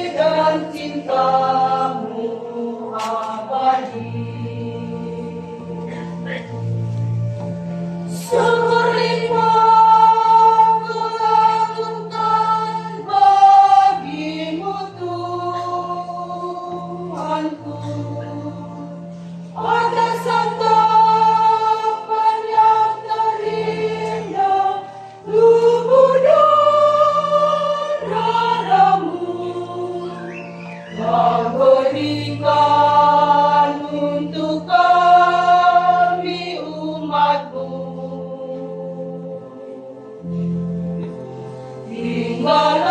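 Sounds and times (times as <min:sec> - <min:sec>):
choir singing a hymn: 0:00.0 - 0:07.4, 0:08.1 - 0:42.9
electronic keyboard accompaniment: 0:00.0 - 0:42.9.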